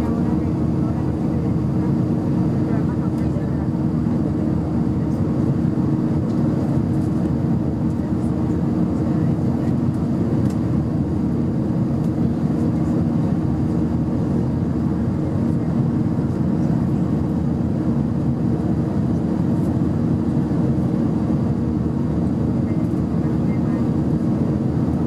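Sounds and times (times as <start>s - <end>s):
jet engine drone: 0.0s - 25.0s
steady low cabin hum: 0.0s - 25.0s.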